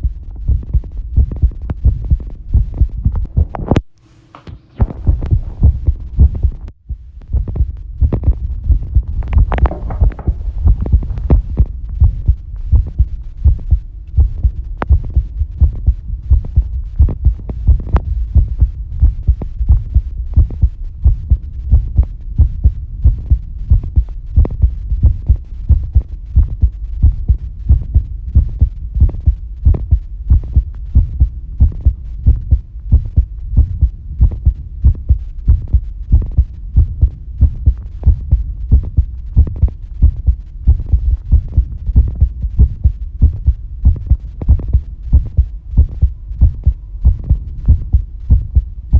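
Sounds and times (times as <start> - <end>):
heartbeat thuds: 0.0 - 3.9, 4.5 - 48.9
faint steady hum: 0.0 - 48.9.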